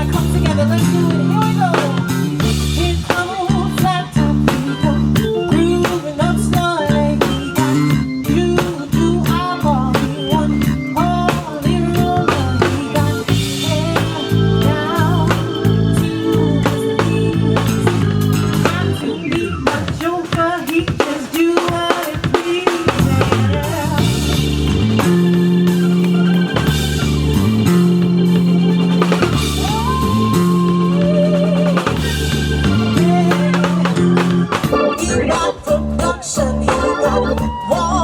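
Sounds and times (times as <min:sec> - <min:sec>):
sustained bass notes: 0:00.0 - 0:20.1, 0:22.9 - 0:38.0
bass drum: 0:00.0 - 0:20.5, 0:22.8 - 0:38.0
keyboard notes: 0:00.0 - 0:20.6, 0:22.6 - 0:38.0
drum rimshots: 0:00.0 - 0:38.0.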